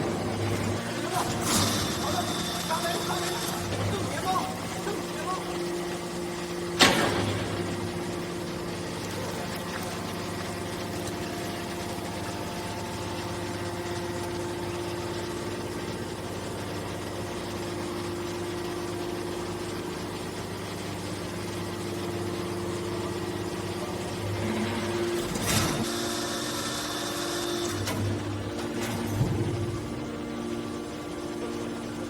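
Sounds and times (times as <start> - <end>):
hydraulic baler droning hum: 0.0 - 32.0.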